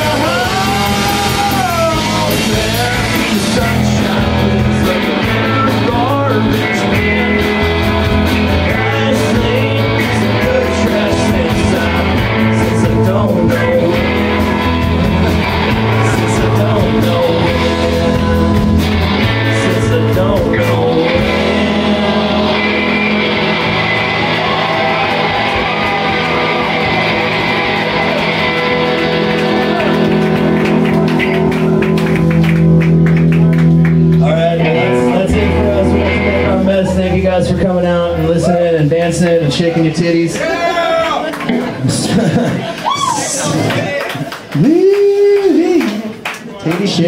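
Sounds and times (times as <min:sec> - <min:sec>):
live rock band playing: 0:00.0 - 0:47.0.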